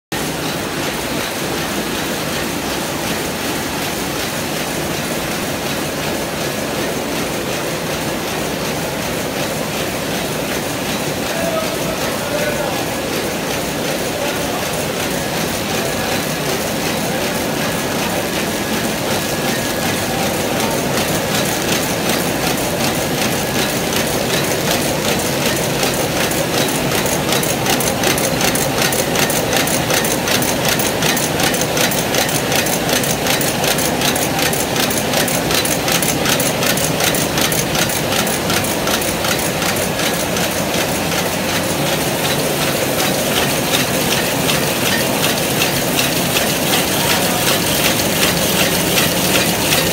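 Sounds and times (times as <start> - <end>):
machine mechanical clatter: 0.2 - 49.9.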